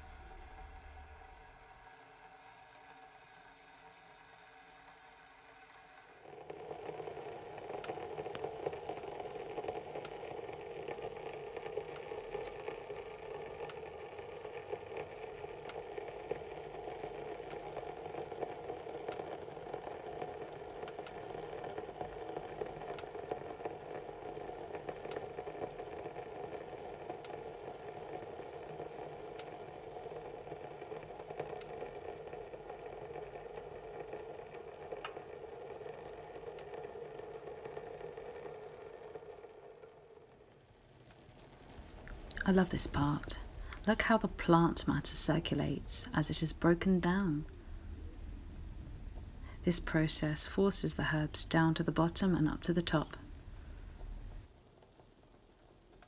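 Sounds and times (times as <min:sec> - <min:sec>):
water boiling in a pot: 0:00.0 - 0:56.0.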